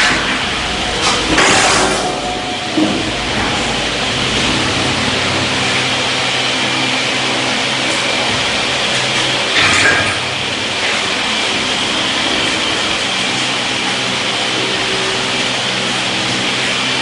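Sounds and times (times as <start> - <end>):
brazing machine hum and hiss: 0.0 - 17.0.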